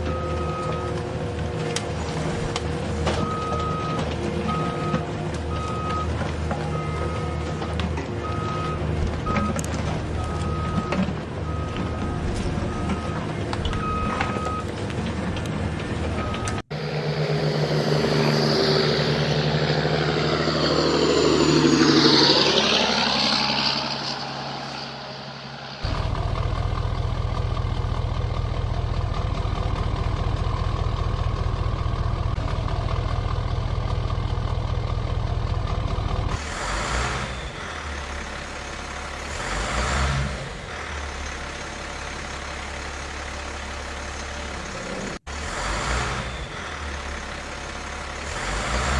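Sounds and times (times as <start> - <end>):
heavy truck engine: 0.0 - 48.9.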